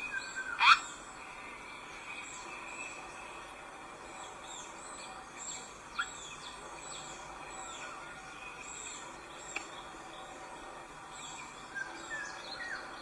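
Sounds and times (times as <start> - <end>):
background hiss: 0.0 - 13.0
small birds chirping: 0.0 - 13.0.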